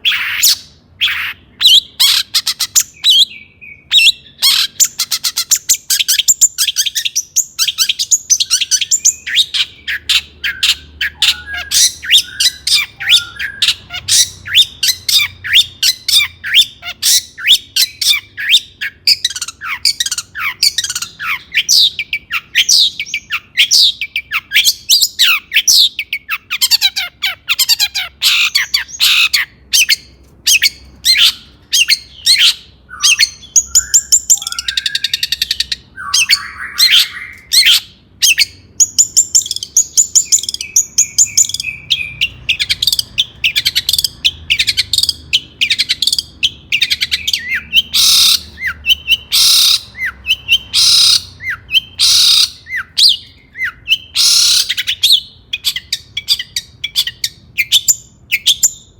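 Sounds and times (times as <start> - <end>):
bird singing: 0.0 - 58.9.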